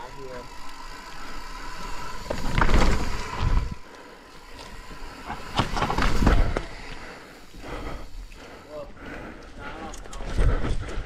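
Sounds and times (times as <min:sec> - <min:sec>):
mountain bike rattling over trail: 0:00.0 - 0:11.0.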